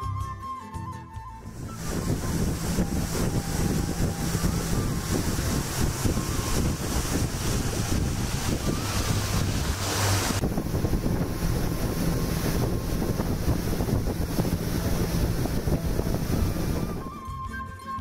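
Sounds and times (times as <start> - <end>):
water rushing past hull: 1.4 - 17.4
wind buffeting microphone: 1.4 - 17.4
boat motor running: 1.5 - 17.4.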